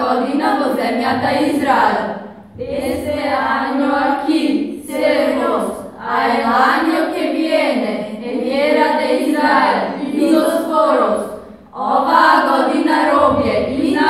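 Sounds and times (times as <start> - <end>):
girls singing together: 0.0 - 14.0.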